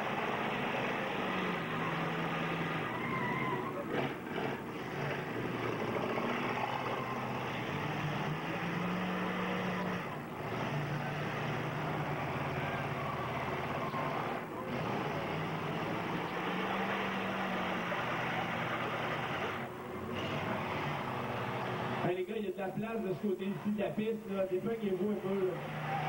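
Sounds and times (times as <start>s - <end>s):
car engines running and revving: 0.0s - 26.0s.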